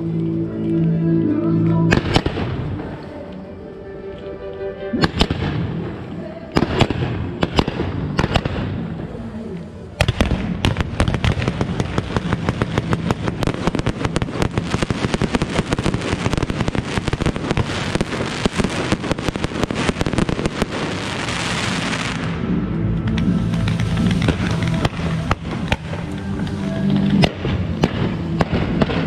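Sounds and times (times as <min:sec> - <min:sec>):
fireworks bangs: 0:01.9 - 0:03.0, 0:05.0 - 0:29.0
fireworks crackle: 0:01.9 - 0:03.4, 0:05.0 - 0:29.0.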